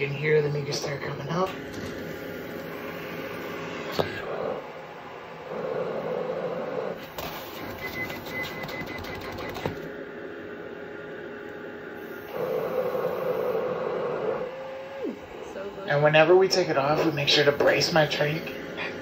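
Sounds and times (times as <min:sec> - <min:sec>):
blower hum: 0:00.0 - 0:19.0.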